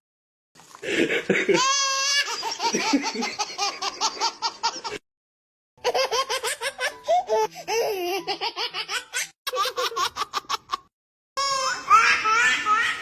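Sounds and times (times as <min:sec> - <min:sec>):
baby laughing: 0:01.4 - 0:05.0, 0:05.8 - 0:13.0.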